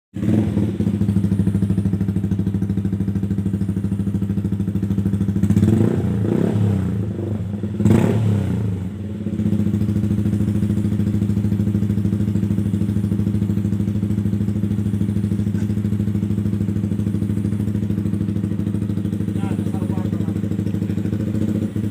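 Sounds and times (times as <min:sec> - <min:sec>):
motorcycle engine idling and revving: 0:00.1 - 0:21.9.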